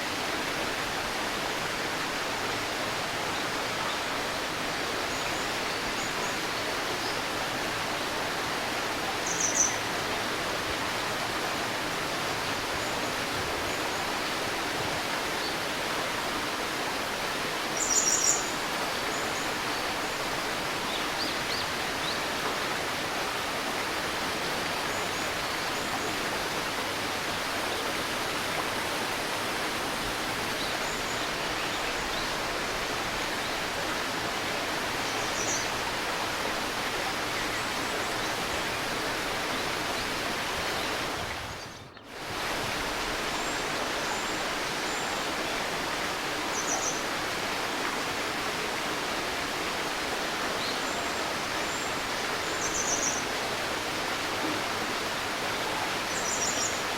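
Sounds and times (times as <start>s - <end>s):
river babbling: 0.0s - 56.9s.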